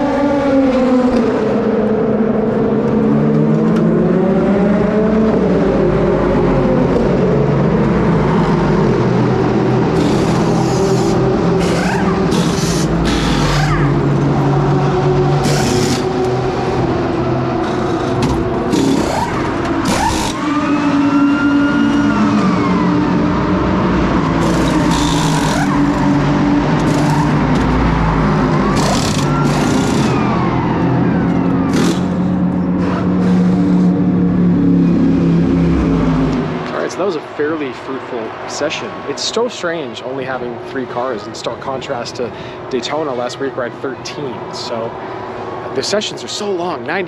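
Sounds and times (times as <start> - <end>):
race car engines revving: 0.0 - 47.0.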